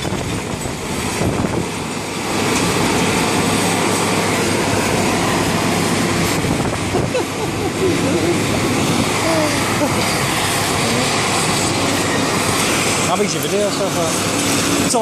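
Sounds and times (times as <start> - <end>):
demolition machinery noise: 0.0 - 15.0.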